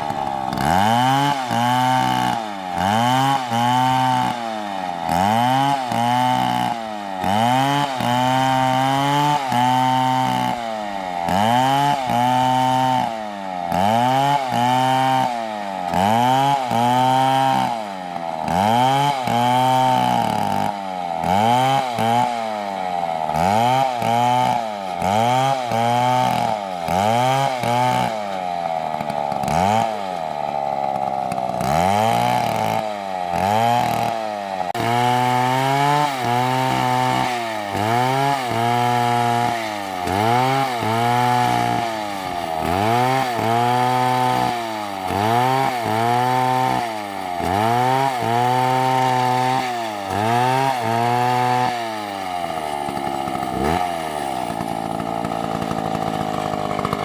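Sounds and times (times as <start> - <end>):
chainsaw cutting a tree: 0.0 - 57.0.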